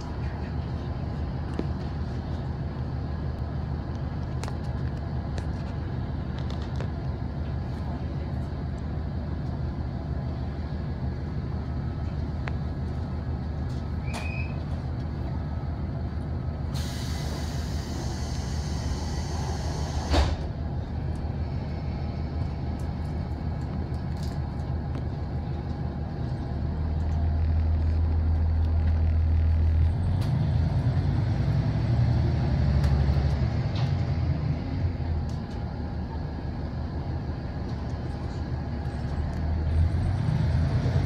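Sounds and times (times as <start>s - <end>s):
diesel train engine idling: 0.0s - 41.0s.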